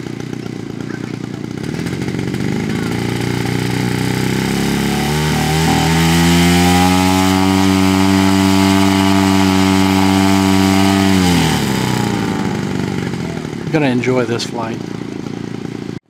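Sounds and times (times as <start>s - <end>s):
model airplane engine revving: 0.0s - 16.0s.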